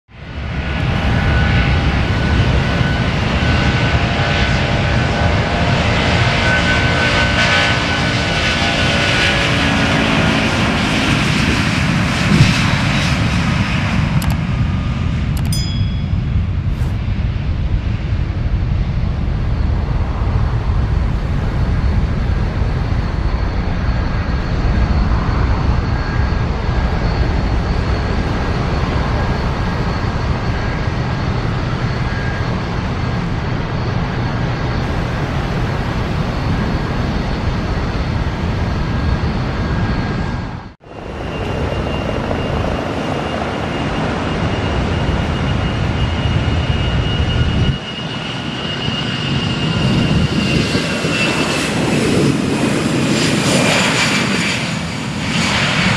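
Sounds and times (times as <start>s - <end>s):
high turbine whine: 0.1s - 55.9s
jet engines roaring at takeoff: 0.1s - 55.9s.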